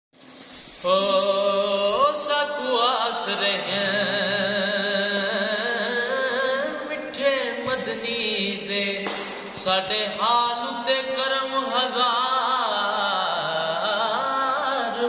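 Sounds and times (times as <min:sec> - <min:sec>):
man singing devotional song: 0:00.8 - 0:15.0.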